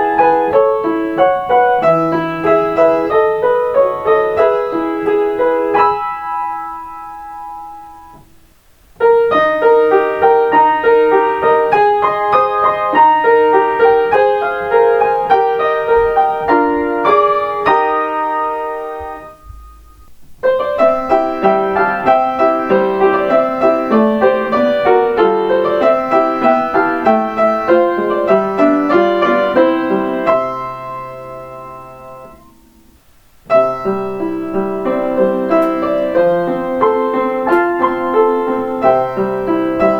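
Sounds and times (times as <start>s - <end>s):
piano chime melodies: 0.0s - 8.2s, 9.3s - 32.8s, 33.5s - 39.9s.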